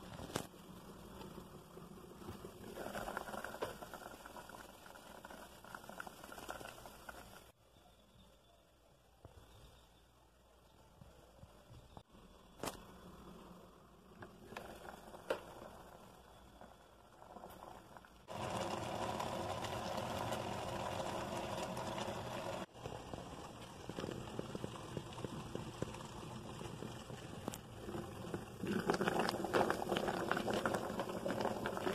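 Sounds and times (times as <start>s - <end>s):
bubbling and crackling: 0.0s - 7.6s, 12.6s - 31.9s
rush of boiling water: 0.0s - 7.6s, 13.4s - 31.9s.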